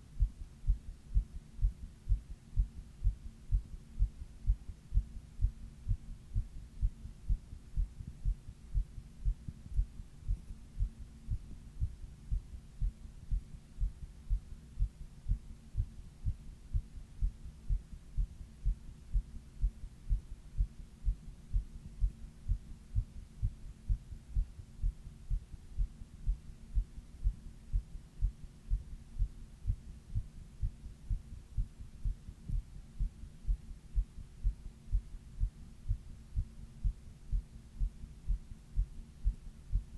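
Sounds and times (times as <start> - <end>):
faint steady hum: 0.0 - 39.9
heartbeat thumps: 0.0 - 39.9.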